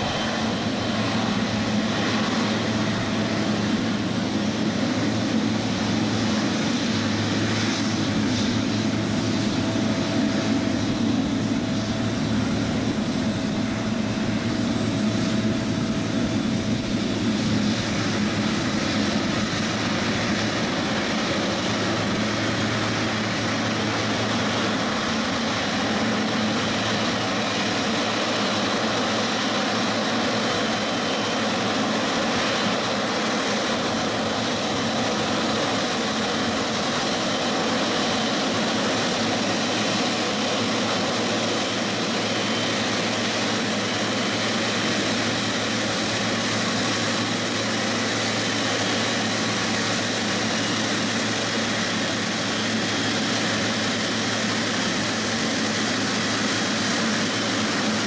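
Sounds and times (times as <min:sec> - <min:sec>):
jet engine whine at idle: 0:00.0 - 0:58.0.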